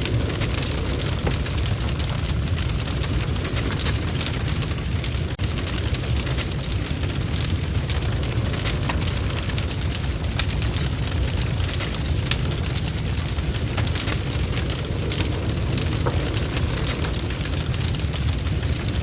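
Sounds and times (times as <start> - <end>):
burning wood crackling: 0.0 - 19.0
low roar of flames: 0.0 - 19.0.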